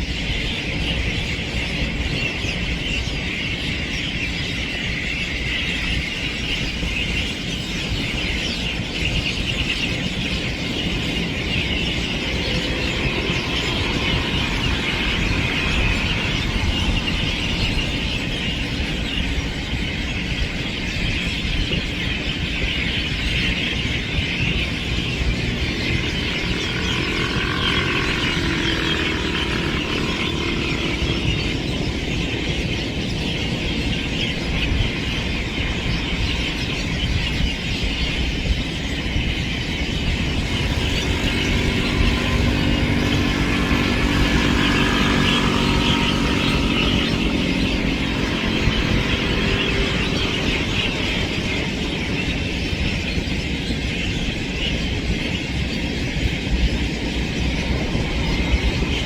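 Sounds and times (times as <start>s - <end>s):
birds chirping and chattering: 0.0s - 59.0s
constant low rumble: 0.0s - 59.0s.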